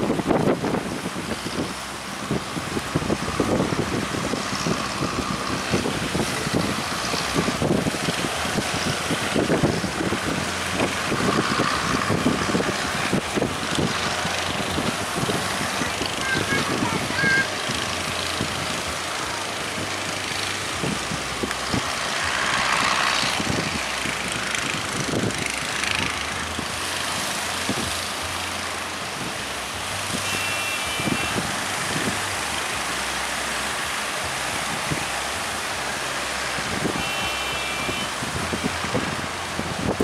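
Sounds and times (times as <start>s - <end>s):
wind thumping on microphone: 0.0s - 28.4s, 31.0s - 32.7s, 34.3s - 35.6s, 36.5s - 37.1s, 38.0s - 40.0s
wind and surf roaring: 0.0s - 40.0s.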